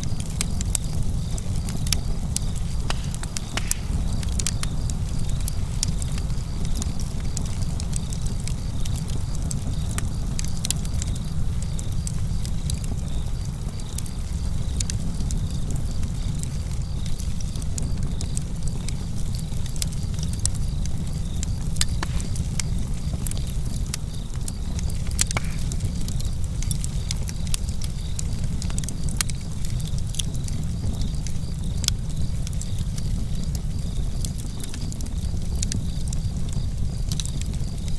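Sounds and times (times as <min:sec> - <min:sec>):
crickets chirping: 0:00.0 - 0:37.9
low rumble of flames: 0:00.0 - 0:37.9
wood crackling and popping: 0:00.0 - 0:37.9.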